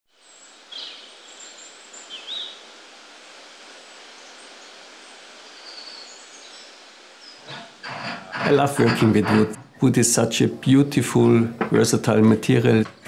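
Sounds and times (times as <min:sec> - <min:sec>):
steady soft hiss: 0:00.1 - 0:13.0.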